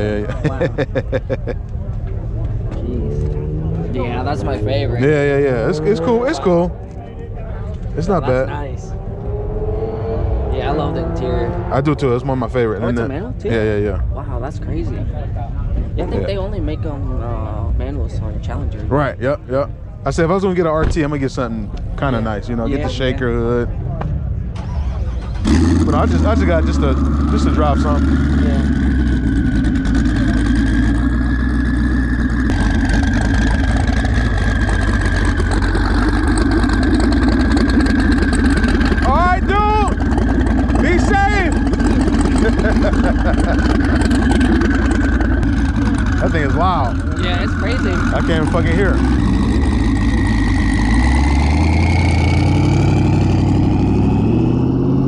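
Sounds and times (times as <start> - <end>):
car engine running loudly: 0.0 - 55.0.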